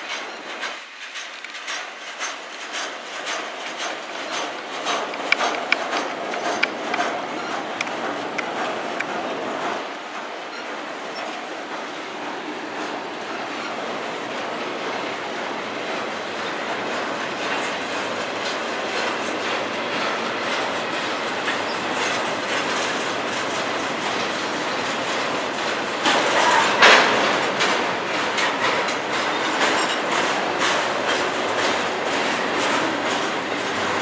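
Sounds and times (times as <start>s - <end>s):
steel wheels running on rails: 0.0s - 34.0s.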